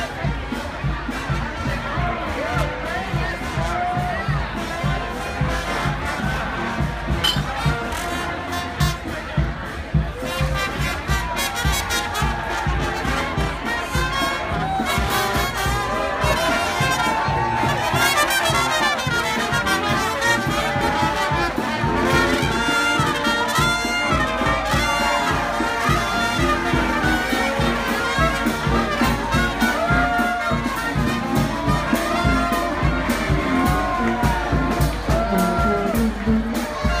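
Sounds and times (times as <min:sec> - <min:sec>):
brass band playing: 0:00.0 - 0:37.0
drum beat: 0:00.0 - 0:37.0.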